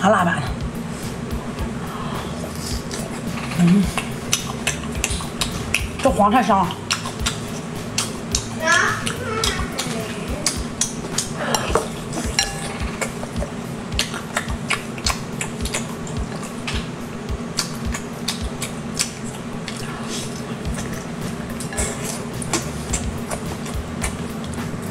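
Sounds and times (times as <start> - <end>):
wet chewing and mouth clicks: 2.4 - 16.9, 17.5 - 24.9.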